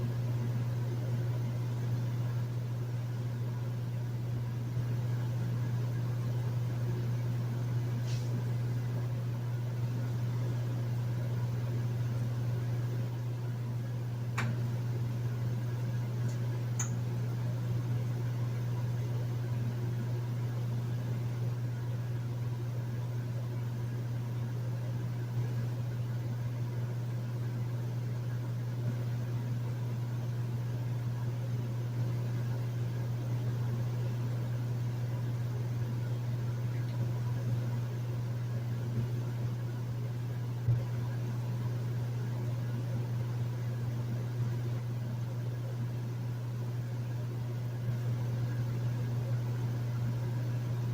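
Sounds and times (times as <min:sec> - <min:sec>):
air conditioner running: 0:00.0 - 0:50.9.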